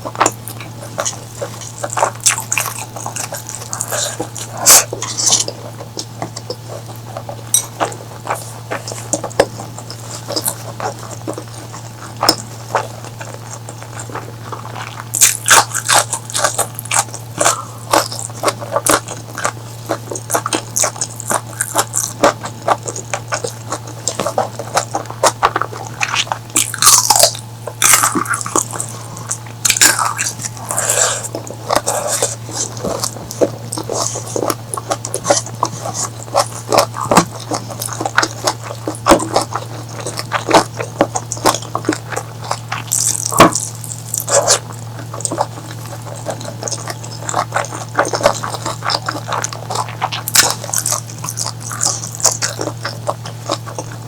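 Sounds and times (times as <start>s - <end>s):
person chewing food: 0.0s - 54.0s
steady low hum: 0.0s - 54.0s.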